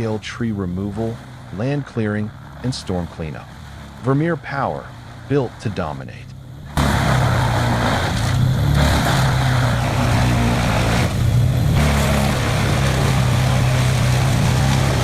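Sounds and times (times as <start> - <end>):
wood chipper engine drone: 0.0 - 15.0
wood going through chipper: 0.0 - 15.0.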